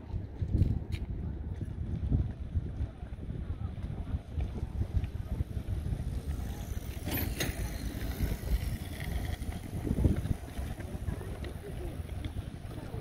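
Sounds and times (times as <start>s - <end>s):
wind buffeting microphone: 0.0s - 13.0s
low outdoor rumble: 1.2s - 13.0s.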